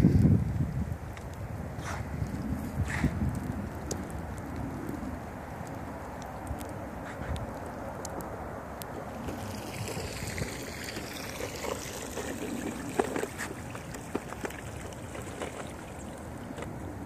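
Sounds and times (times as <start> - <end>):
wheels rolling through water: 0.1 - 17.0
water swishing and trickling: 2.5 - 17.0.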